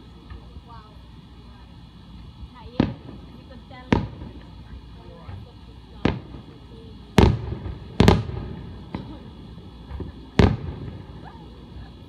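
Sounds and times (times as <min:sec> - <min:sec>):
firework shells bursting: 0:01.8 - 0:12.0.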